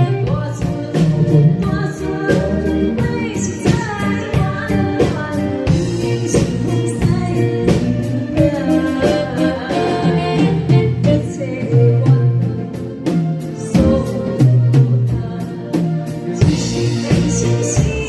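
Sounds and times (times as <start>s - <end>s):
instrumental accompaniment with beat: 0.0s - 18.0s
woman singing: 0.0s - 18.0s.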